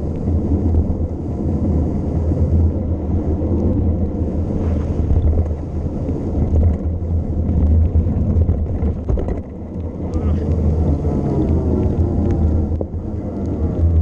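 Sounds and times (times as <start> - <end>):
bike tyre ticks: 0.0 - 4.5, 5.1 - 14.0
wind buffeting microphone: 0.0 - 14.0.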